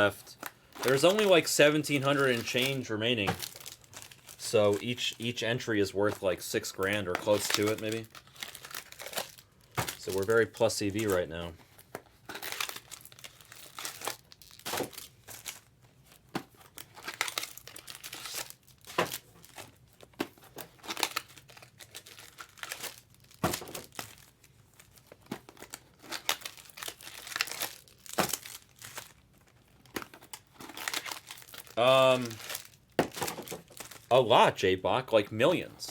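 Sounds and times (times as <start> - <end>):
card pack wrappers tearing: 0.0 - 11.5, 12.2 - 34.4.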